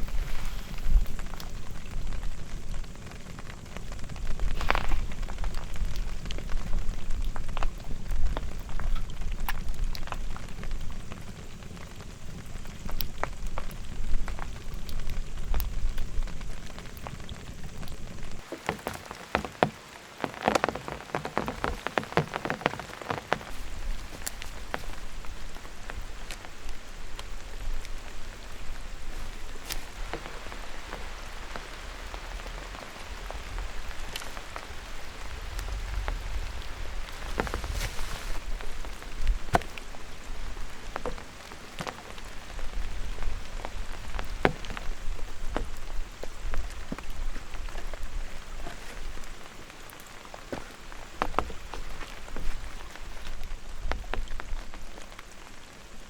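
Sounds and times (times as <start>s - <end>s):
heavy rain falling: 0.0s - 56.0s
raindrops ticking on a surface: 0.0s - 56.0s.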